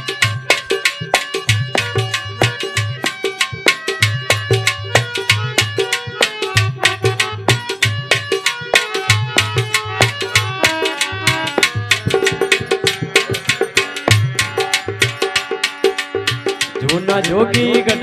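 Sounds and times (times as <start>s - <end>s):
hand drum beating: 0.0s - 18.0s
melody instrument: 0.0s - 18.0s.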